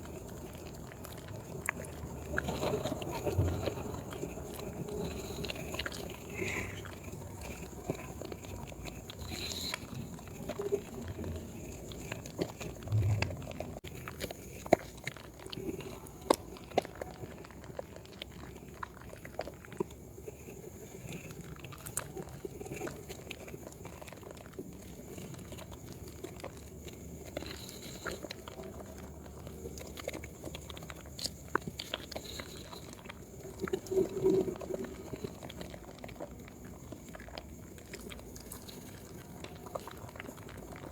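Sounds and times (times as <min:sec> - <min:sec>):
wet soap squishing in hands: 0:00.0 - 0:40.9.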